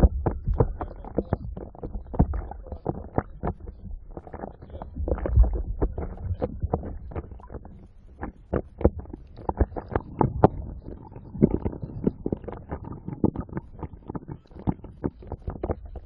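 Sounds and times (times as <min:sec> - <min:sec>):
low rumble: 0:00.0 - 0:14.1.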